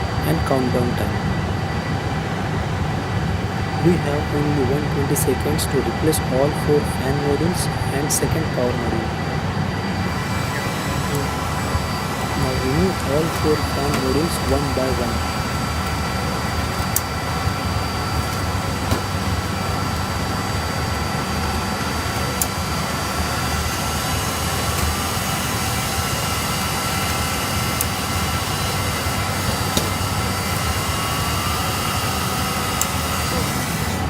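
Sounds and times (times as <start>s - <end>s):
cooling fans whirring: 0.0s - 34.0s.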